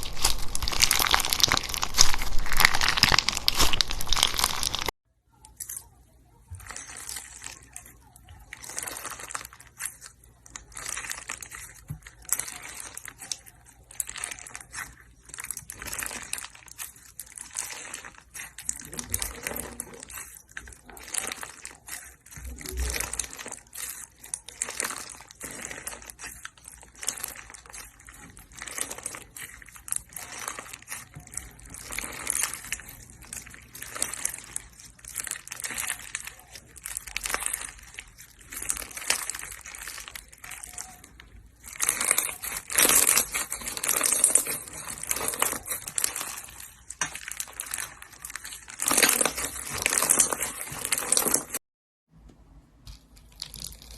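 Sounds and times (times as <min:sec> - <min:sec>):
slime squishing and crackling: 0:00.0 - 0:51.6, 0:52.7 - 0:53.9.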